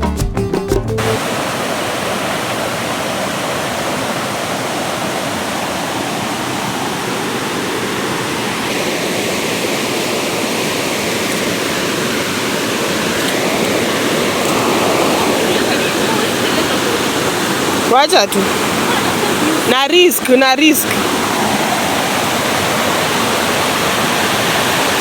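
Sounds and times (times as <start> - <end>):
small waterfall rushing: 1.0 - 25.0.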